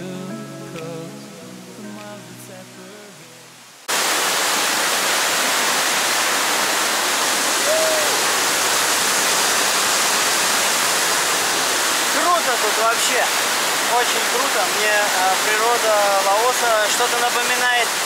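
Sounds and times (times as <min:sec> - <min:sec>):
waterfall rushing and splashing: 0:00.8 - 0:18.0.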